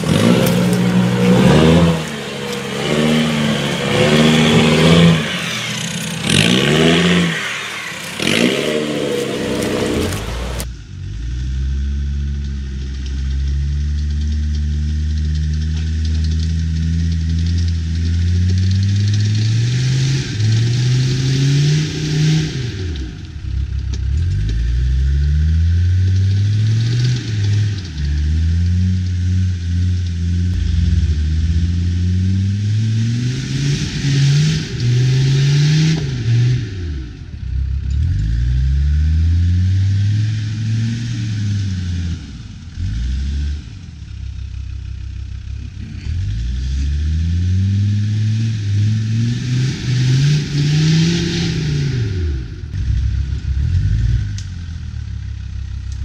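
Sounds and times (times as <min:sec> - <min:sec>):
engine revving up and down: 0:00.0 - 0:44.2, 0:45.2 - 0:56.0.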